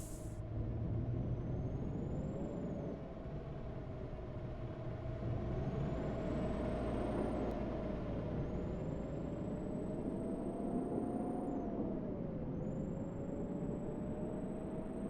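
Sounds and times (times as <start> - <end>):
motor vehicle rumble and whine: 0.0 - 15.0.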